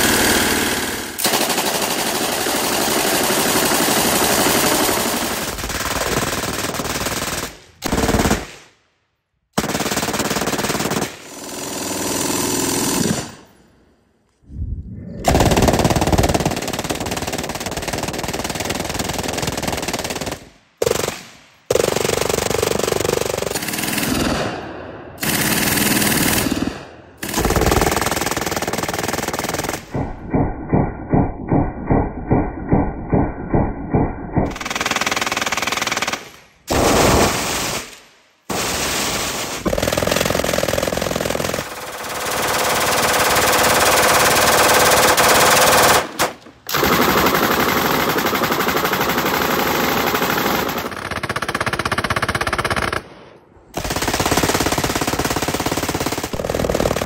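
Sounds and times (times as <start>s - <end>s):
machine gun automatic bursts: 0.0s - 8.6s, 9.6s - 13.4s, 15.3s - 24.4s, 25.2s - 32.9s, 34.4s - 53.1s, 53.8s - 57.0s.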